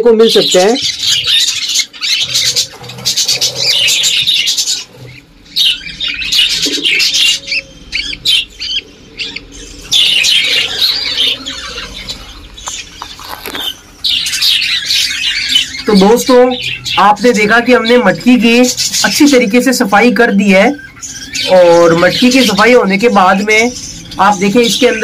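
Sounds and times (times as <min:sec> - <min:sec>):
budgerigars chattering and squawking: 0:00.0 - 0:25.0.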